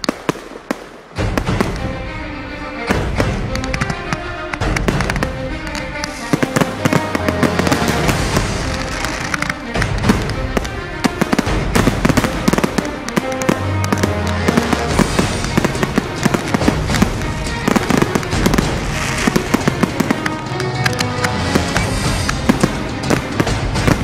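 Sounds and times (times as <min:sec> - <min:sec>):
fireworks bangs and pops: 0:00.0 - 0:02.2, 0:02.8 - 0:24.0
music playing: 0:01.1 - 0:24.0.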